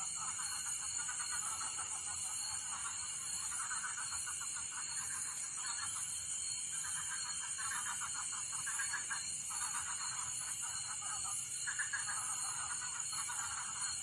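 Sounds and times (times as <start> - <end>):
frogs calling in pulsed trills: 0.0 - 14.0.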